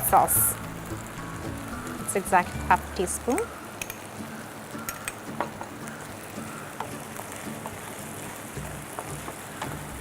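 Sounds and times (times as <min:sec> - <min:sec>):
food sizzling in a pan: 0:00.0 - 0:10.0
oil popping and crackling: 0:00.0 - 0:10.0.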